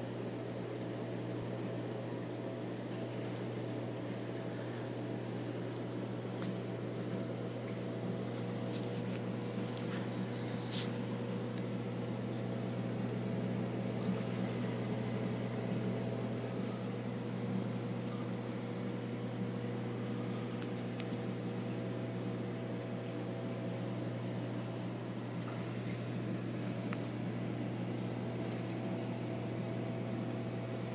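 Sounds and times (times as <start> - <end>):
aquarium pumps humming: 0.0 - 30.9.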